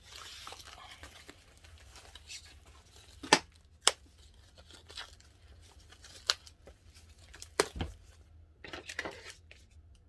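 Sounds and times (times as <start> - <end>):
packaging rustling and crinkling: 0.0 - 9.8.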